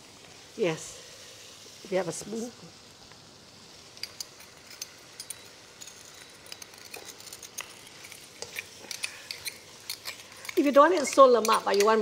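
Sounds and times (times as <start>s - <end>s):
curry sizzling in a wok: 0.0s - 12.0s.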